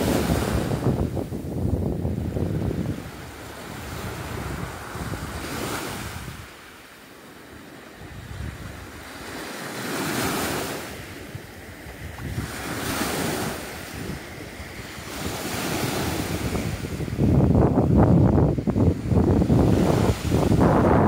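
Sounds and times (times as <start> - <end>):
wind buffeting microphone: 0.0 - 6.6, 7.6 - 21.0
small waves washing onto shore: 0.0 - 21.0.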